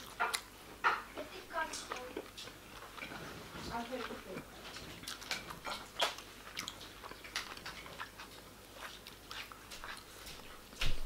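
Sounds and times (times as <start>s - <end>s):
person chewing with smacking: 0.0s - 11.0s.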